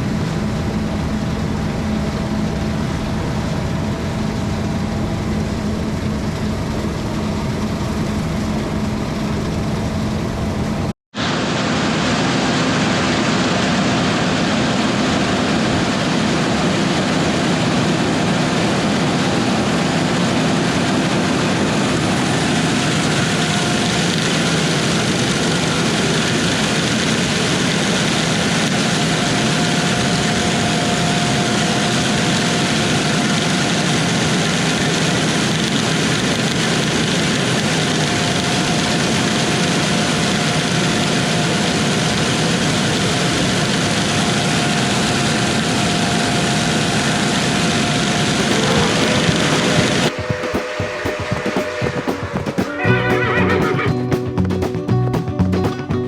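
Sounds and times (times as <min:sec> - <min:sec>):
harvest machinery running: 0:00.1 - 0:55.8.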